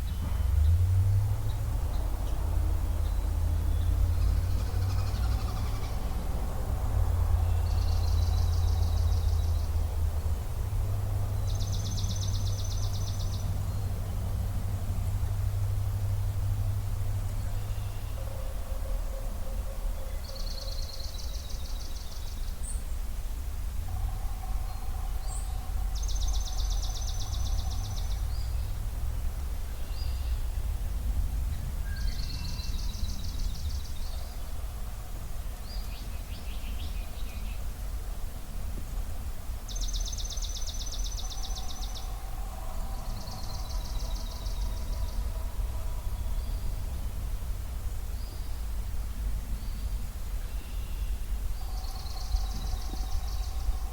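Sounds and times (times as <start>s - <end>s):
steady low rumble: 0.0s - 53.9s.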